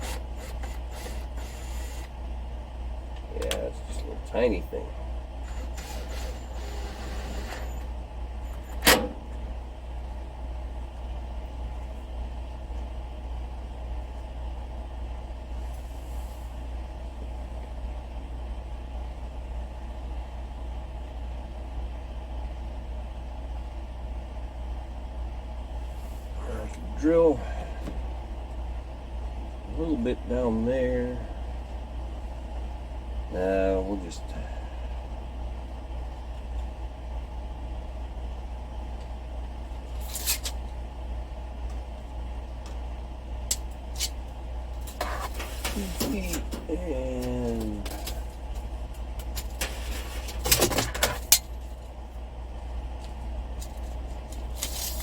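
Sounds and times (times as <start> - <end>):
low mechanical drone: 0.0 - 55.0
steady low hum: 0.0 - 55.0.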